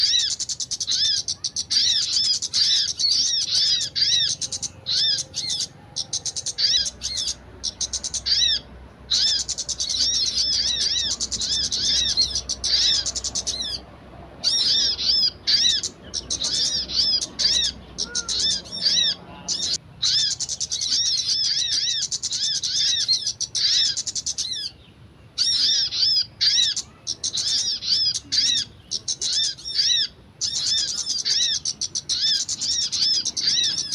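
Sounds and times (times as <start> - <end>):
small songbird chirping: 0.0 - 33.9.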